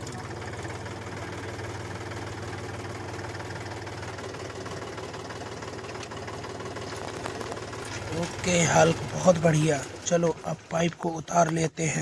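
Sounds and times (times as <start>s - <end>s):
small engine idling chugging: 0.0s - 12.0s.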